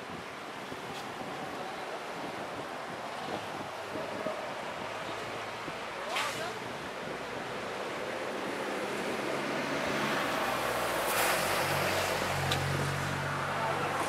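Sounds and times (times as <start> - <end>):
tyre noise of traffic: 0.0 - 14.0.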